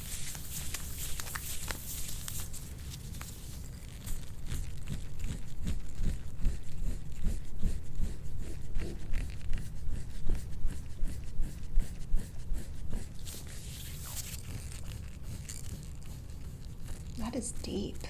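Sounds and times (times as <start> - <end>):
scraping tool rubbing on skin: 0.0 - 18.0.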